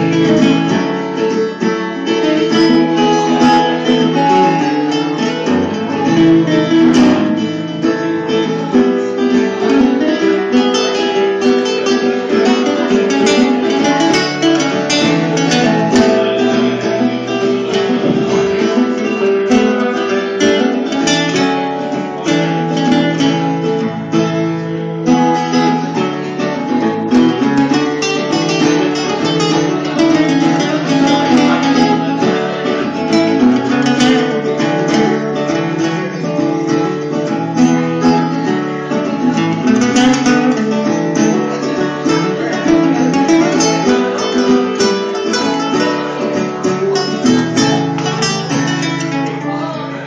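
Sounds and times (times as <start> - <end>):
acoustic guitars playing: 0.0 - 50.0.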